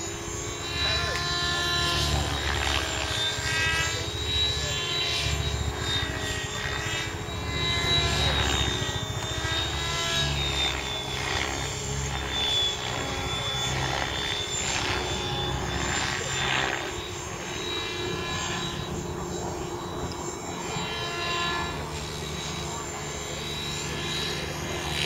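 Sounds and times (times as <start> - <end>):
helicopter rotor hum: 0.0 - 25.0
high motor whine: 0.0 - 25.0
rotor blades whooshing: 0.0 - 25.0.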